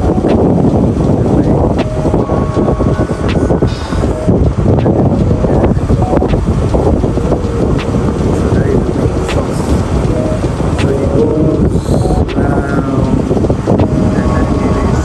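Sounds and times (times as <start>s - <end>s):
moving car rumble: 0.0s - 15.0s
wind buffeting microphone: 0.0s - 15.0s.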